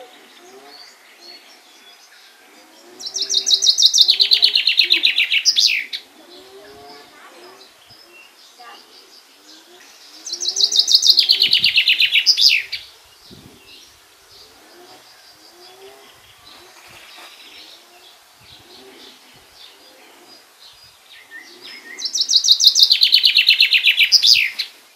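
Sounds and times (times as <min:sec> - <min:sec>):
chaffinch singing: 0:00.0 - 0:24.9.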